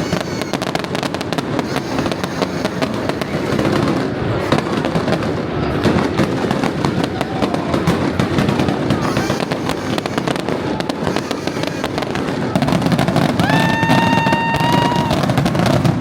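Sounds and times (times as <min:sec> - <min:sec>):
fireworks crackling pops: 0:00.0 - 0:16.0.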